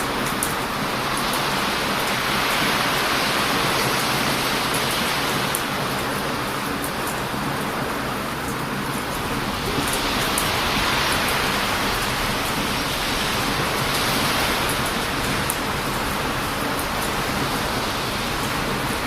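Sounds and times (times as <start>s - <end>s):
bonfire crackling: 0.0s - 19.0s
heavy surf breaking: 0.0s - 19.0s.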